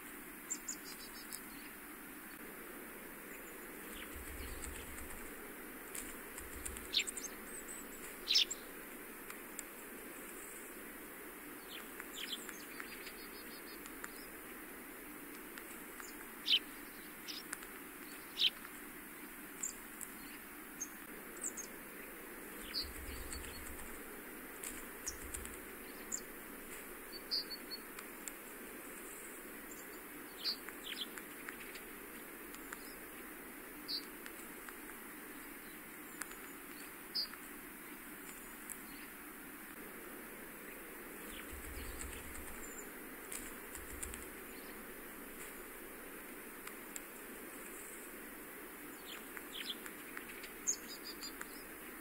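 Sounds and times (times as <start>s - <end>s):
background hiss: 0.0s - 52.0s.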